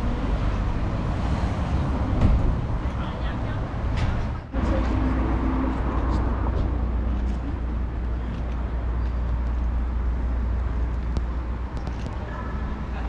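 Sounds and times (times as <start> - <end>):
low rumble: 0.0 - 12.1
road traffic noise: 0.0 - 13.0.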